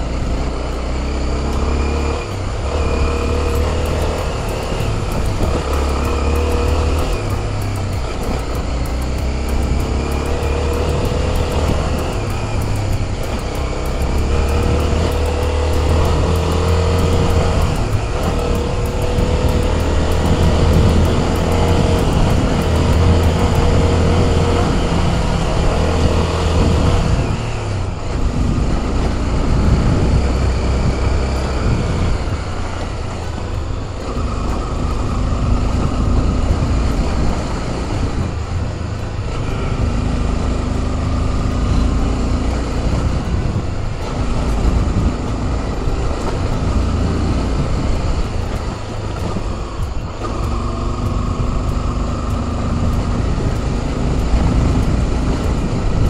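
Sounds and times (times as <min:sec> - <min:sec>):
motorcycle engine running: 0:00.0 - 0:56.0
road noise: 0:00.0 - 0:56.0
wind noise: 0:00.0 - 0:56.0.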